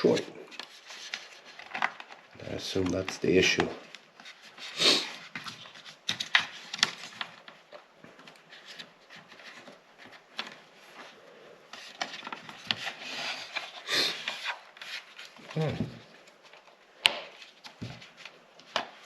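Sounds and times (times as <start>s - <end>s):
rubbing and scraping plastic: 0.0s - 19.0s.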